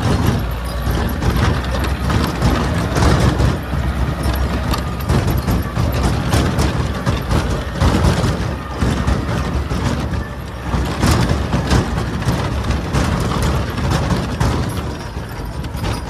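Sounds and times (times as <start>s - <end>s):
tractor diesel engine running: 0.0s - 16.0s
trailer clattering knocks: 0.0s - 16.0s.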